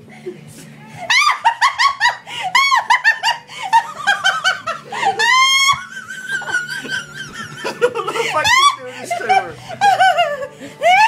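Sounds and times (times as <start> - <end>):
woman laughing and squealing: 1.0 - 11.0.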